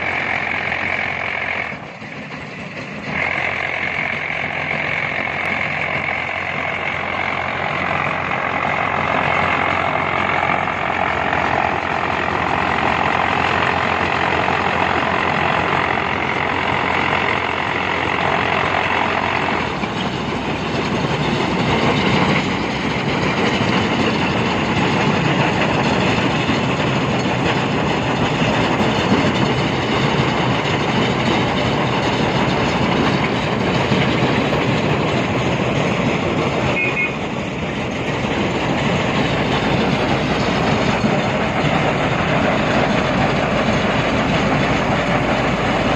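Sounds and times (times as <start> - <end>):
heavy machinery engine clattering: 0.0 - 45.9.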